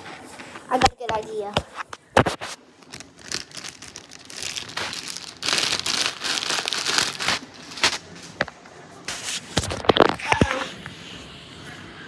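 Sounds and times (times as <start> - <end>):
rustling crinkling handling noise: 0.2 - 10.3.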